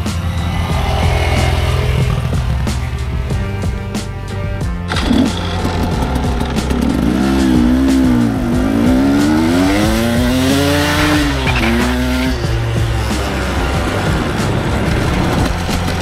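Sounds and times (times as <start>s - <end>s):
background music: 0.0s - 16.0s
dirt bike engine revving: 0.0s - 16.0s.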